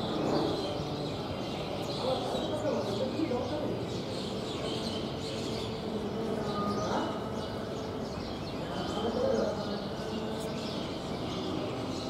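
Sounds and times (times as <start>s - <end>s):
murmur of distant voices: 0.0s - 12.0s
small birds chirping: 0.0s - 12.0s.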